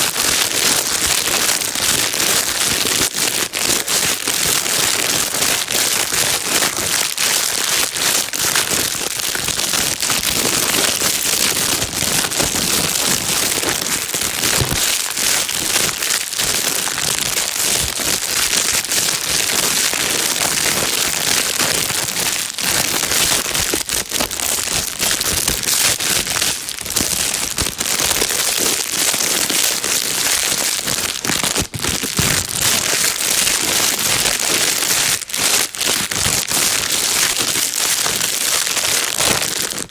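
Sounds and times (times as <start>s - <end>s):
plastic bag crinkling: 0.0s - 0.2s, 2.5s - 39.9s.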